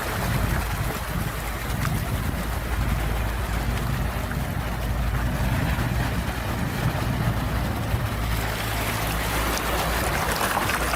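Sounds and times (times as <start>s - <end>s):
sea rushing: 0.0s - 10.9s.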